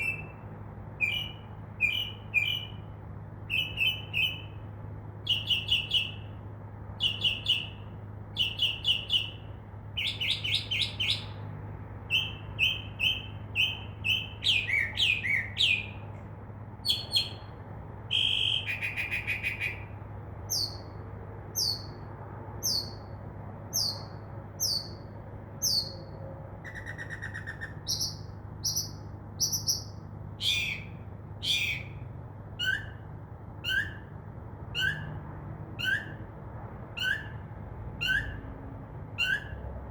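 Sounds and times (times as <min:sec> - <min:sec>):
mockingbird singing: 0:00.0 - 0:06.4, 0:07.0 - 0:11.4, 0:12.1 - 0:16.1, 0:16.8 - 0:23.1, 0:23.7 - 0:35.2, 0:35.8 - 0:36.2, 0:37.0 - 0:38.4, 0:39.1 - 0:39.6.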